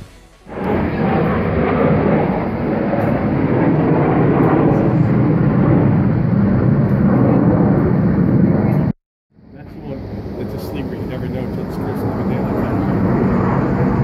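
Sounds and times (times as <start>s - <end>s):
aircraft flying past: 0.0s - 14.0s.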